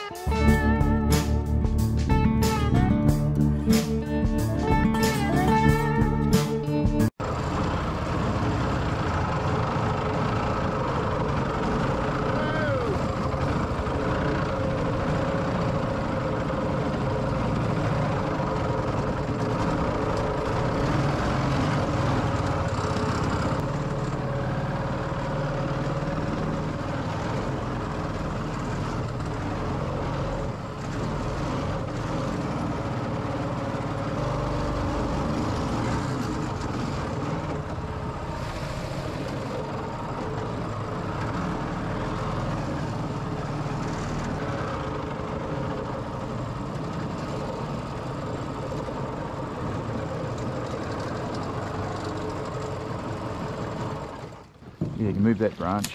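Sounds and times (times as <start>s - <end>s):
boat engine running: 0.0s - 55.8s.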